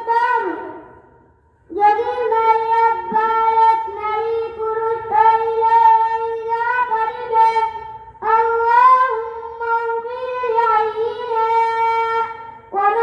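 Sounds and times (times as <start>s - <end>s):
boy singing into a microphone: 0.0s - 0.9s, 1.7s - 13.0s.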